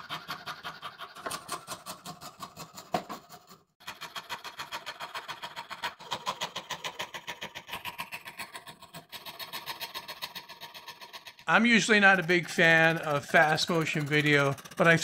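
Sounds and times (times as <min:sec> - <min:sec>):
coping saw cutting plywood: 0:00.0 - 0:15.0.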